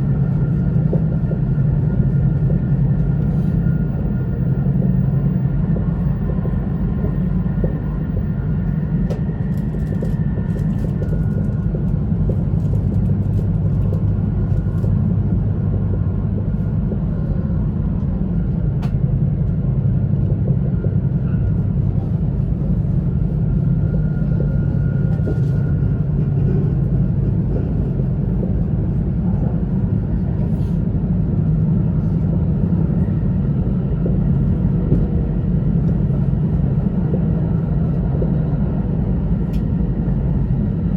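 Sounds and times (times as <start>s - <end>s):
train cabin low rumble: 0.0s - 40.9s.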